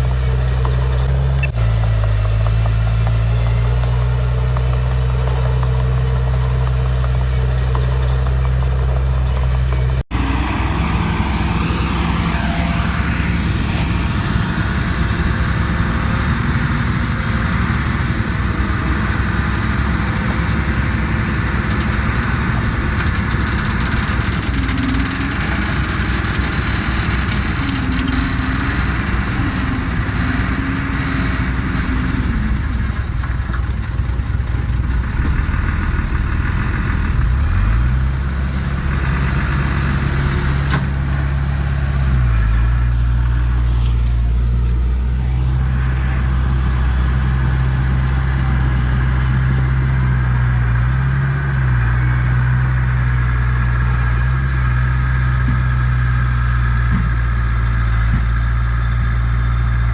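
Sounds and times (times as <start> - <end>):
diesel engine revving: 0.0 - 59.9
heavy diesel engines running: 0.0 - 59.9.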